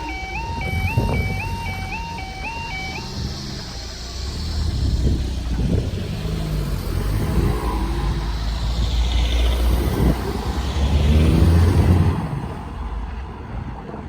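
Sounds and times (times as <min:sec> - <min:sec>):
vehicle passing close by: 0:00.0 - 0:14.0.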